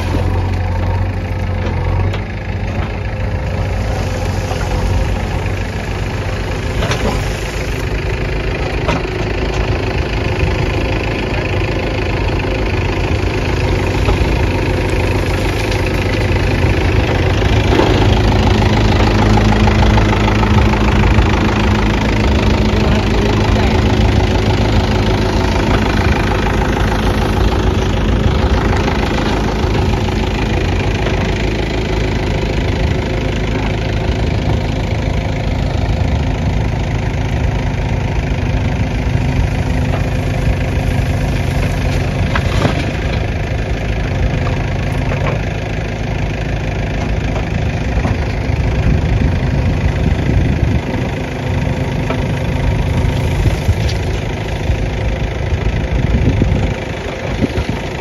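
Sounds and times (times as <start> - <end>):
backhoe digging rubble: 0.0 - 58.0
diesel engines running: 0.0 - 58.0.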